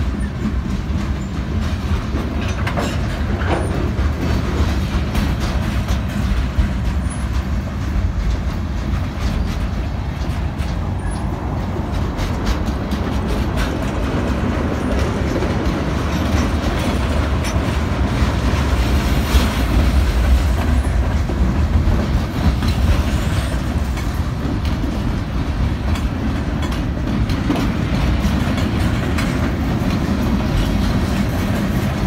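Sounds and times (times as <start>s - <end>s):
train wheels rumbling on rails: 0.0s - 32.0s
wheels clicking over rail joints: 0.0s - 32.0s.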